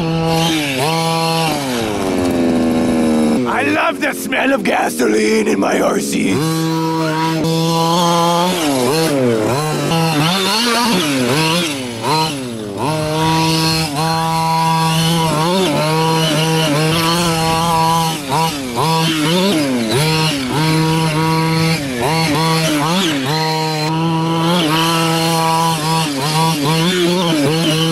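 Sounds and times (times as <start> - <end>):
model truck engine revving: 0.0 - 3.5, 6.4 - 27.9.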